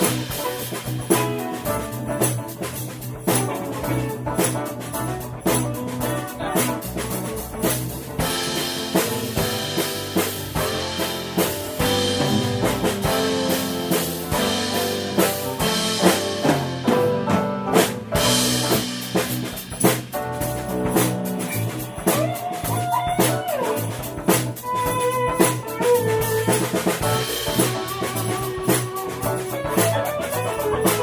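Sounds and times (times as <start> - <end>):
drum kit: 0.0 - 31.0
electric bass: 0.0 - 31.0
guitar: 0.0 - 31.0
keyboard: 0.0 - 31.0.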